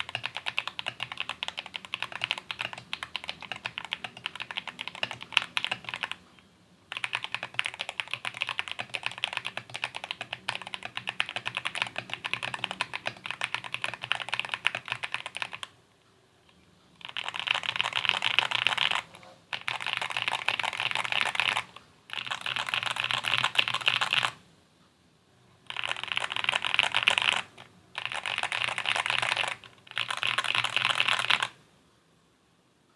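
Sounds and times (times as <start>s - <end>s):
fast typing on mechanical keyboard: 0.0s - 6.2s, 6.9s - 15.7s, 17.0s - 24.4s, 25.7s - 31.6s.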